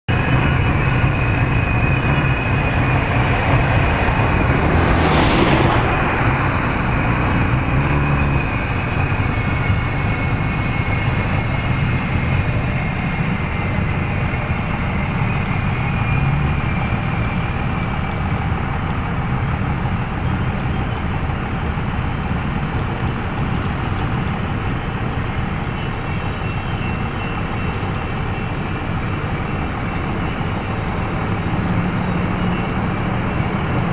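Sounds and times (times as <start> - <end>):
train rumbling: 0.1 - 33.9.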